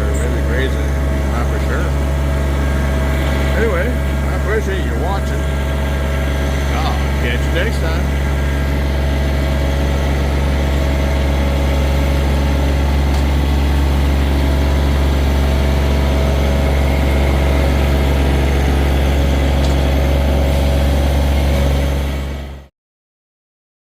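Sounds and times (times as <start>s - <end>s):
tractor diesel engine idling: 0.0s - 22.7s.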